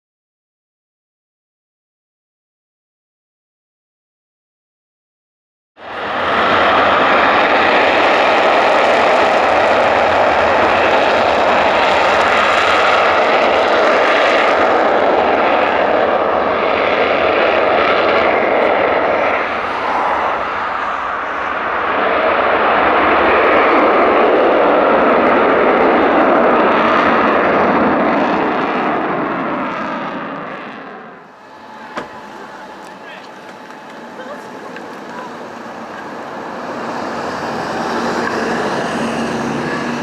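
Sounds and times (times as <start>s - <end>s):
jet engine roar: 5.8s - 40.0s.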